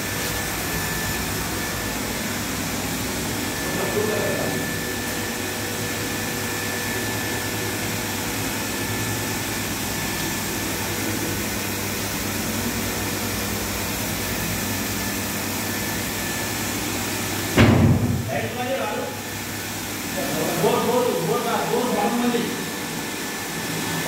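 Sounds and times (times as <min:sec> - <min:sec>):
water purification pump humming: 0:00.0 - 0:24.0.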